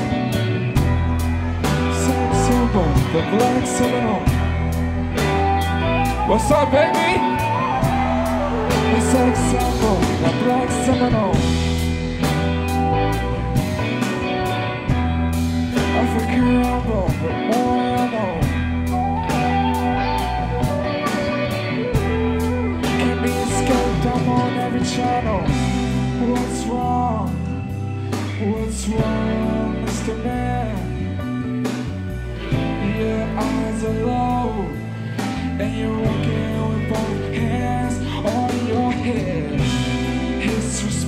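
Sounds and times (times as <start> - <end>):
live band playing: 0.0 - 41.0
person singing: 1.2 - 11.8, 15.8 - 31.3, 32.5 - 41.0.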